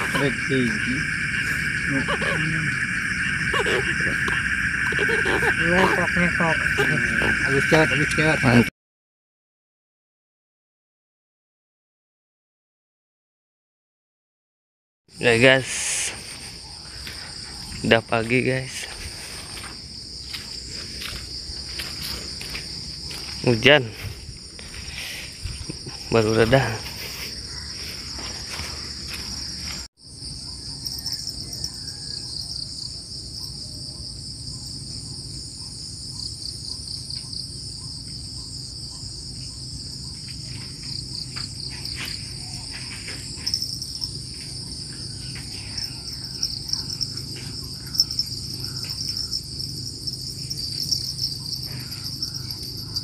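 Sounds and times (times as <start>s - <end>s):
crickets and insects trilling: 0.0s - 8.7s, 15.1s - 53.0s.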